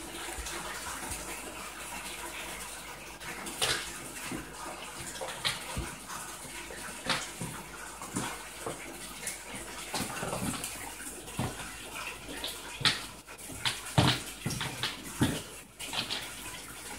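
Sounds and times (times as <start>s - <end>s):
water splashing: 0.0s - 16.9s.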